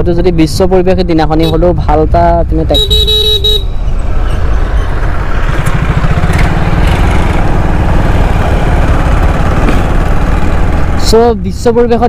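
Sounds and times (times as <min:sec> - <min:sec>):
motorcycle engine running: 0:01.8 - 0:12.0.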